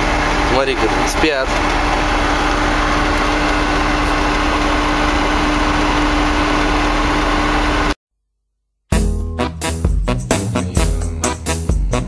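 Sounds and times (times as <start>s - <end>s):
vehicle engine humming: 0.0s - 8.0s, 10.0s - 12.0s.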